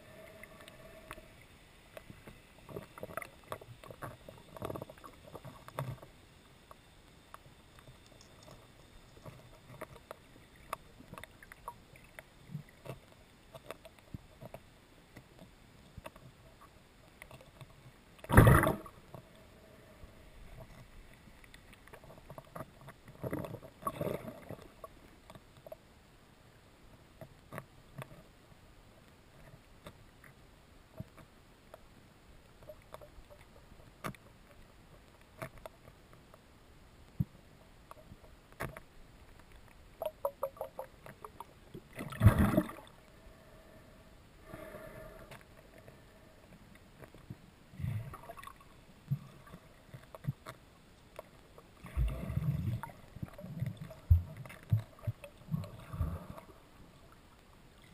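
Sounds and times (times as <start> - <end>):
faint underwater clicks: 0.1 - 26.1, 26.9 - 57.9.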